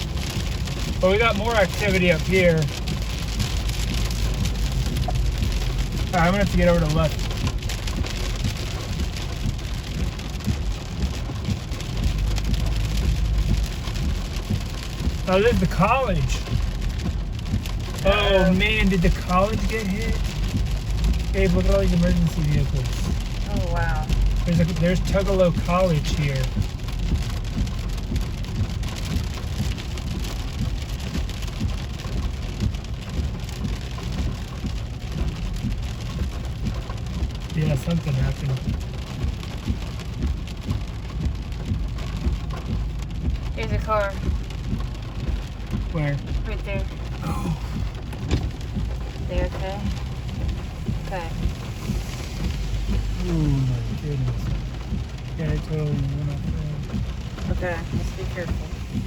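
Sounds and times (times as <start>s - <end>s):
heavy rain on a car: 0.0s - 59.0s
low road rumble: 0.0s - 59.0s.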